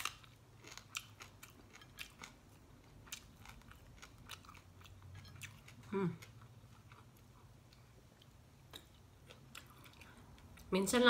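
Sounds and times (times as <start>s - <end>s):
faint crunchy chewing: 0.0s - 10.7s.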